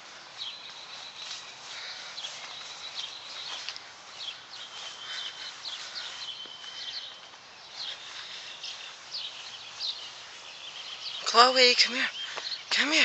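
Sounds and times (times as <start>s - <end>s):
faint outdoor hiss: 0.0s - 13.0s
small songbirds chirping: 0.0s - 13.0s.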